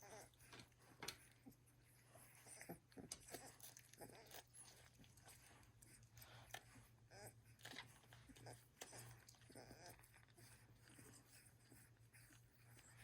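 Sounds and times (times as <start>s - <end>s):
puppies nursing wet smacking: 0.0s - 13.0s.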